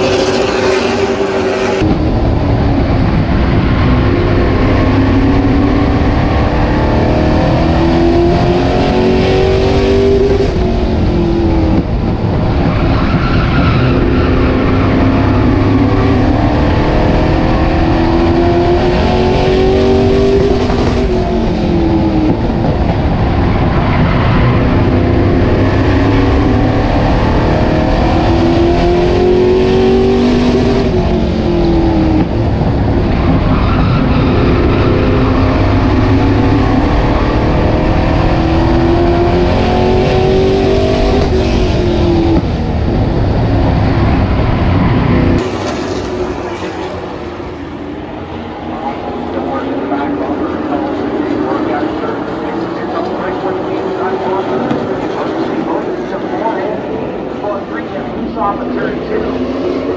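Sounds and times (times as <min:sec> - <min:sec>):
race car engine accelerating: 0:00.0 - 0:59.9
road and wind noise: 0:00.0 - 0:59.9.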